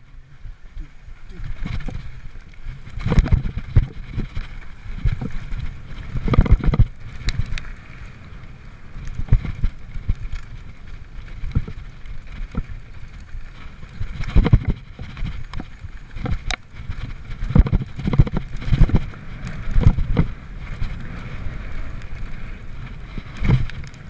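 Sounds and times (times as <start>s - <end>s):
bike rattling over bumps: 0.0s - 24.0s
wind buffeting microphone: 0.0s - 24.0s
tyres rumbling on dirt: 0.8s - 24.0s.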